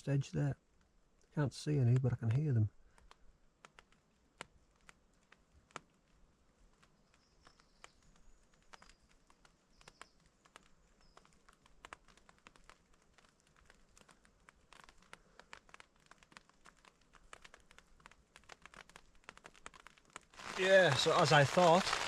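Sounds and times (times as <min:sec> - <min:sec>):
raindrops tapping on a tent: 0:00.0 - 0:22.0.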